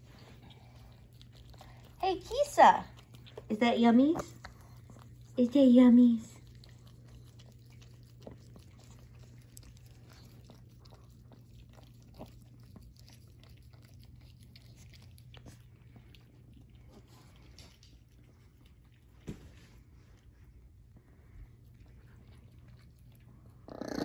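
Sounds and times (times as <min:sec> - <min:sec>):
puppies licking and lapping: 0:00.0 - 0:24.0.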